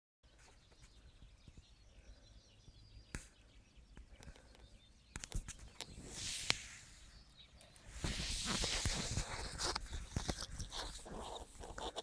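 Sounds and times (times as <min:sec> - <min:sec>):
distant birds chirping: 0:00.2 - 0:12.0.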